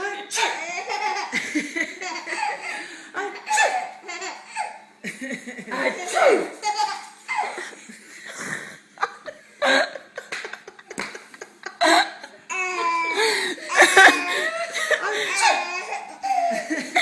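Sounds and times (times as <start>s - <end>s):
baby laughing: 0.4s - 4.8s, 5.7s - 7.8s, 9.7s - 17.0s.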